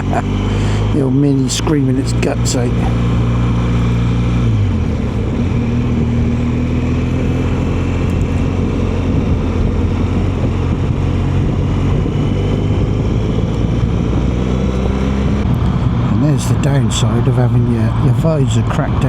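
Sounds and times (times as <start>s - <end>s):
motorcycle engine: 0.0s - 19.0s
tyre noise on wet road: 0.0s - 19.0s
wind noise: 0.0s - 19.0s.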